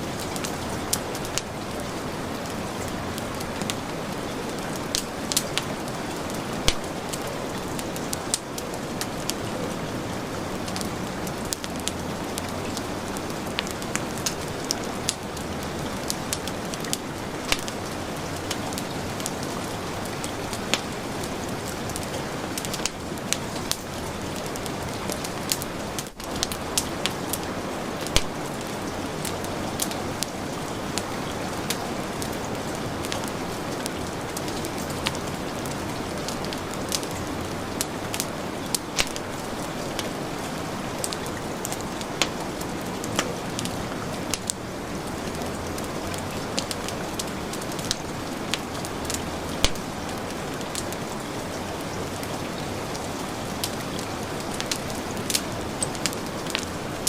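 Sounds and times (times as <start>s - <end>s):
heavy rain falling: 0.0s - 57.0s
wood fire crackling: 0.0s - 57.0s.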